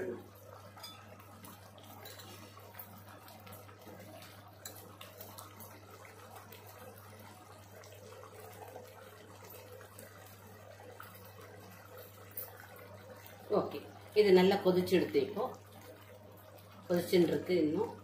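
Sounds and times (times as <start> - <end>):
sauce bubbling in a pot: 0.0 - 18.0.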